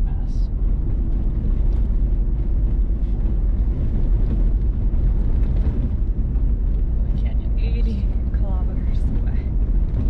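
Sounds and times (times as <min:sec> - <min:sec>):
tyres rumbling on gravel: 0:00.2 - 0:10.0.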